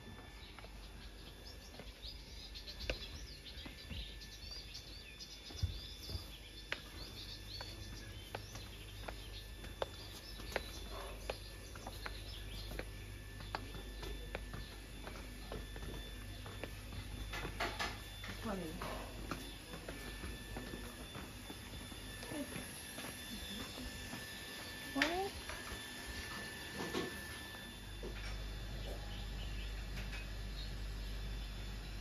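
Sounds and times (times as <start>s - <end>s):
small birds chirping: 0.0s - 26.7s, 28.7s - 32.0s.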